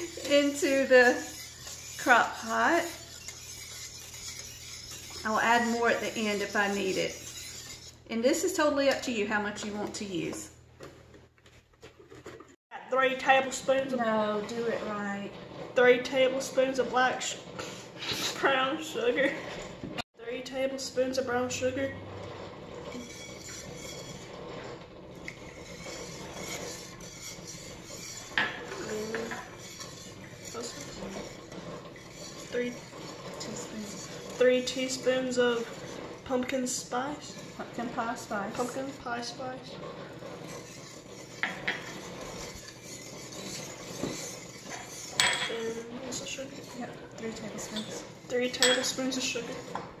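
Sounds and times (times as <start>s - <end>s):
whisk scraping inside pot: 0.0s - 50.0s.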